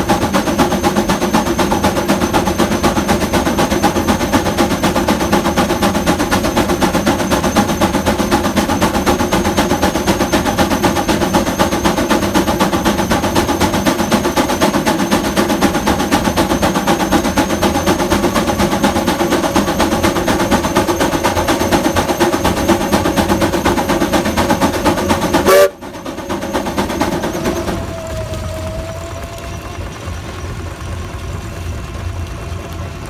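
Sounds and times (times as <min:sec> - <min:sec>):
steam engine exhaust chuffing: 0:00.0 - 0:33.0.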